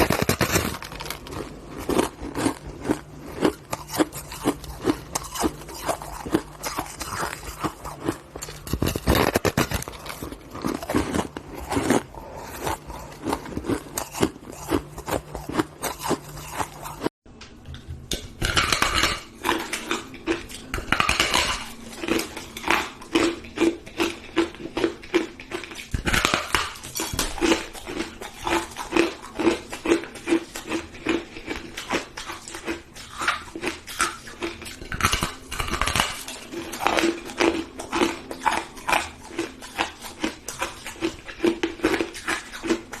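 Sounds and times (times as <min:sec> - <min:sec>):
crunchy ice chewing: 0:00.0 - 0:17.1, 0:18.5 - 0:43.0.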